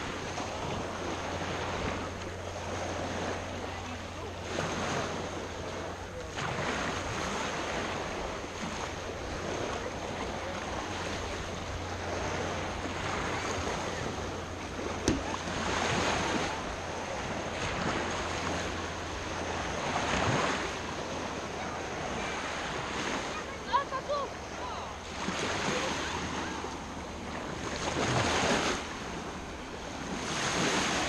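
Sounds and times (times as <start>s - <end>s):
small waves washing ashore: 0.0s - 31.0s.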